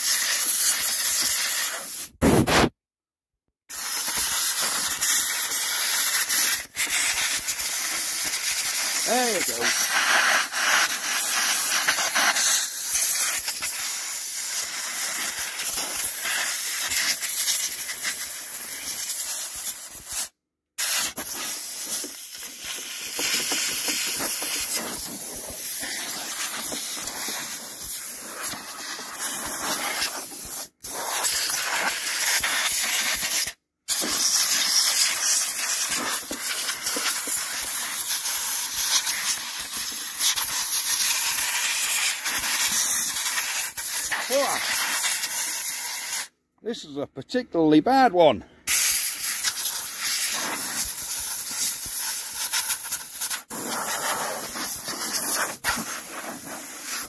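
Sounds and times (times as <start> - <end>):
compressed air blow gun hissing: 0.0 - 2.2, 3.7 - 46.3, 48.7 - 57.0.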